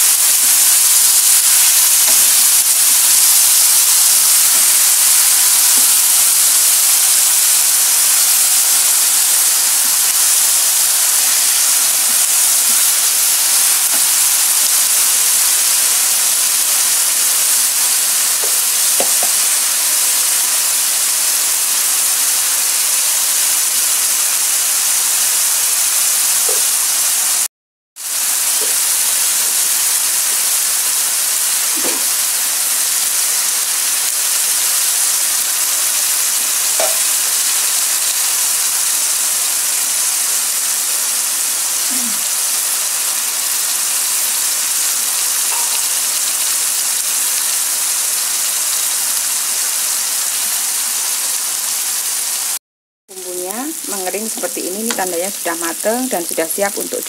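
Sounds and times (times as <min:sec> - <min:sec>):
chili paste sizzling in a wok: 0:00.0 - 0:57.0.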